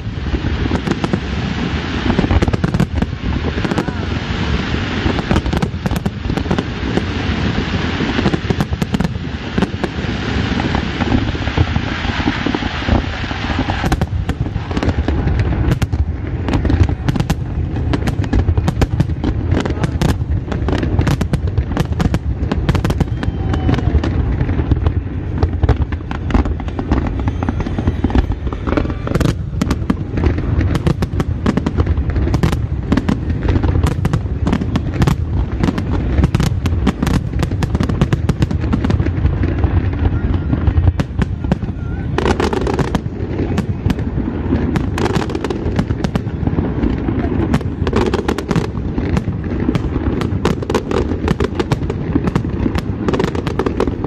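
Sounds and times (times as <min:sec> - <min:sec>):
continuous low rumble: 0:00.0 - 0:54.0
fireworks bangs and cracks: 0:00.0 - 0:54.0.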